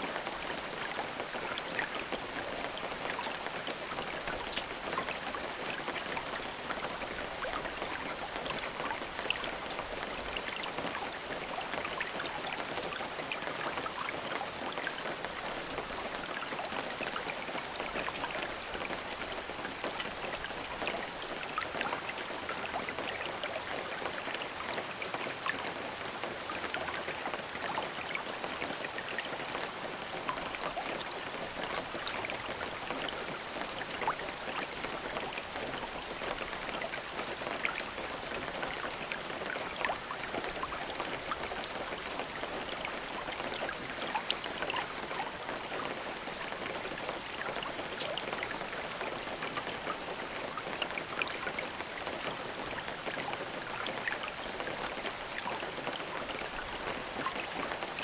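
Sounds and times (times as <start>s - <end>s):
steady rain with drop ticks: 0.0s - 58.0s.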